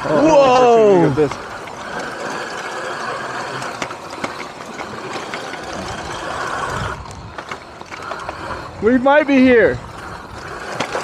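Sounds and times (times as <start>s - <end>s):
bike clicks and rattles: 0.0s - 11.0s
rushing wind and tyres: 0.0s - 11.0s.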